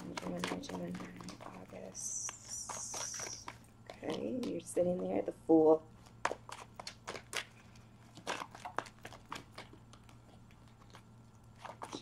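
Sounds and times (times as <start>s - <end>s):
cards being shuffled: 0.0s - 4.7s, 6.0s - 12.0s.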